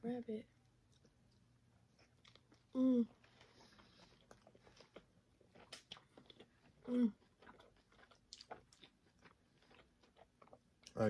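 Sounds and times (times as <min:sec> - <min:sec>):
chewing with wet smacks: 0:00.8 - 0:11.0.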